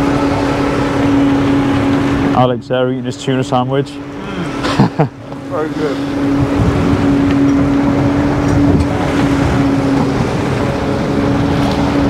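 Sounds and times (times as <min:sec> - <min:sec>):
boat engine running steadily: 0:00.0 - 0:12.0
water noise: 0:00.0 - 0:12.0
wind: 0:00.0 - 0:12.0.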